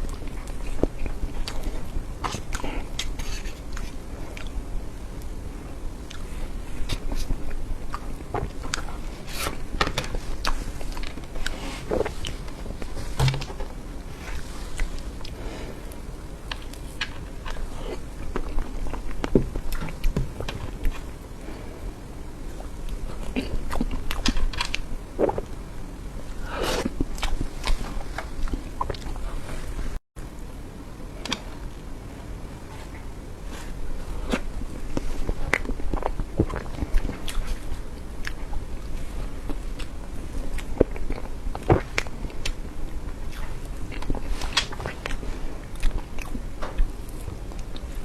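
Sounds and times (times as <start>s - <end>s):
close-miked chewing: 0.0s - 30.0s, 31.2s - 48.0s.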